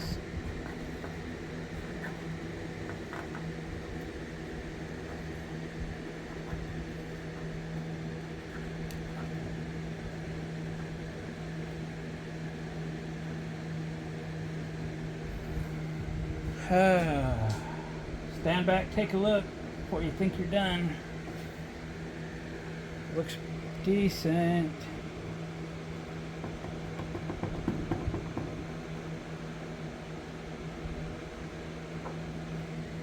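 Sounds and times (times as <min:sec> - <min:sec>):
machine hum droning: 0:00.0 - 0:33.0.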